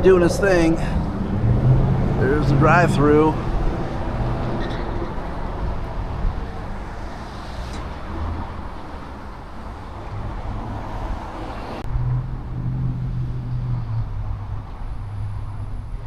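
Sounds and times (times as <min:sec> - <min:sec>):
cars passing: 0:00.0 - 0:16.0
low engine hum: 0:00.0 - 0:16.0.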